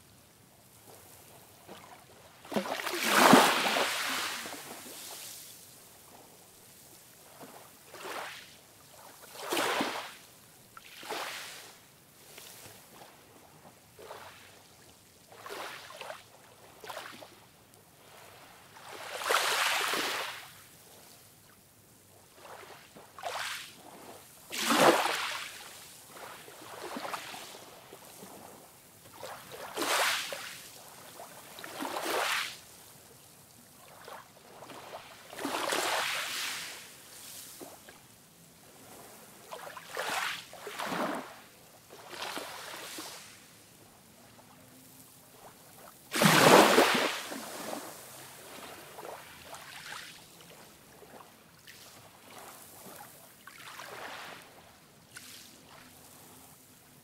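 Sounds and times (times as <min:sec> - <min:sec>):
small waves washing up beach: 0:00.6 - 0:57.0.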